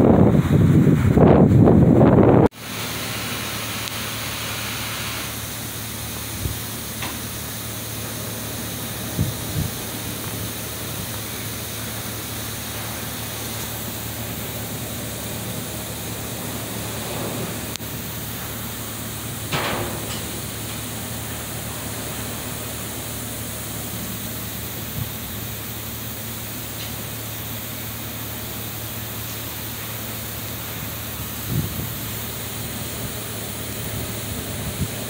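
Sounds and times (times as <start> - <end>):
constant low hum: 0.0 - 35.0
industrial ventilation hiss: 0.1 - 35.0.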